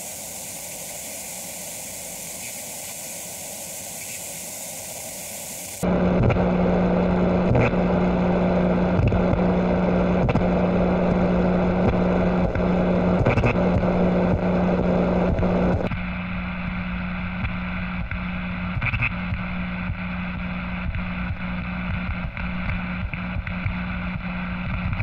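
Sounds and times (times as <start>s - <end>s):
static hiss: 0.0s - 25.0s
steady low buzz: 0.0s - 25.0s.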